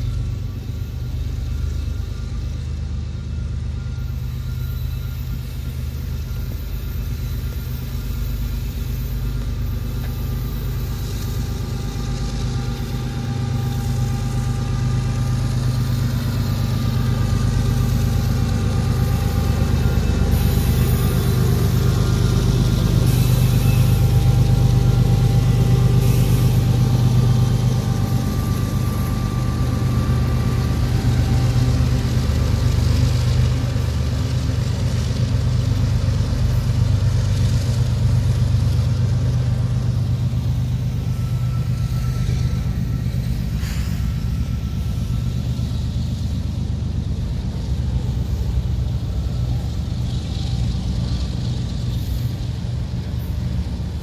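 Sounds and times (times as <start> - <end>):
diesel locomotive engine drone: 0.0 - 54.0
rolling rail noise: 0.0 - 54.0.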